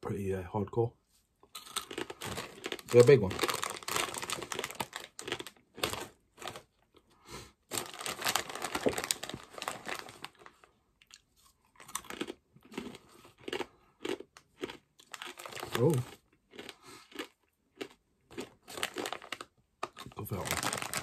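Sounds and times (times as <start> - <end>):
crisp crunching while chewing: 1.5 - 7.0, 7.7 - 21.0.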